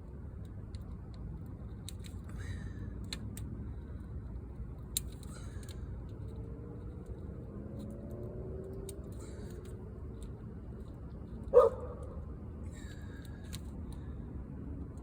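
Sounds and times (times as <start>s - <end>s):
low steady rumble: 0.0s - 15.0s
light clicks and snips: 0.1s - 15.0s.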